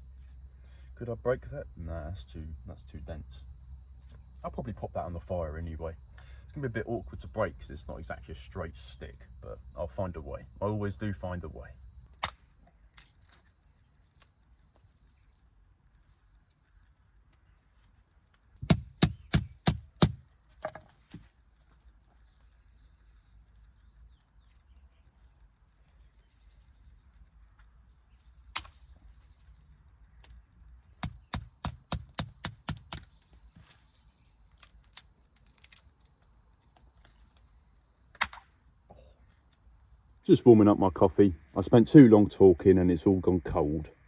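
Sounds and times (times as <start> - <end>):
faint birdsong chirps: 0.0 - 44.0.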